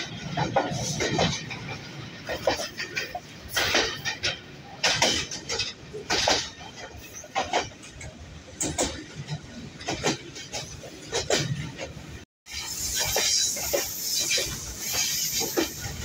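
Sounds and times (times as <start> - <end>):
train wheels clacking over joints: 0.0 - 16.0.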